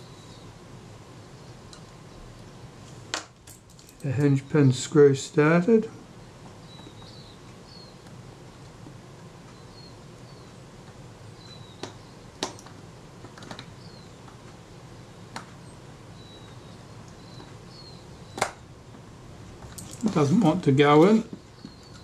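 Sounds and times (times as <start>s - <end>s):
low steady room noise: 0.0s - 22.0s.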